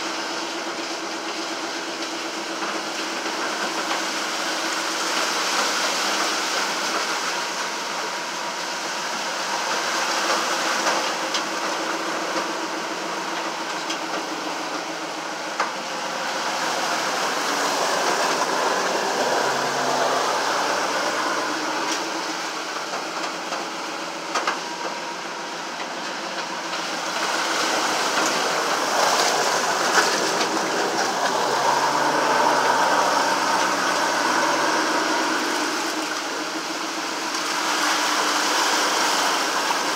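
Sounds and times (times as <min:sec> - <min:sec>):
engine running: 0:00.0 - 0:39.9
floodwater rushing under vehicle: 0:00.0 - 0:39.9.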